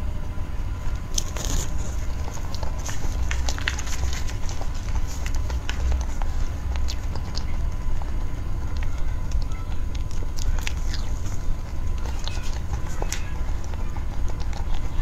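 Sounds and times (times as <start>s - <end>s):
person chewing: 0.8s - 15.0s.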